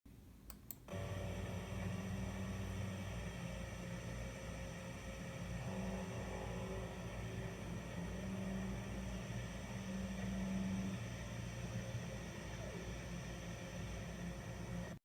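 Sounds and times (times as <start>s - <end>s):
machinery humming: 0.8s - 15.0s.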